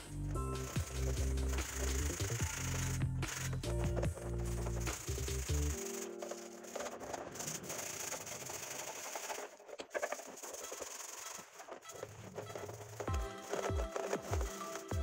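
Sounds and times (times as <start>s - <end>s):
bristle brush scrubbing metal: 0.2s - 15.0s.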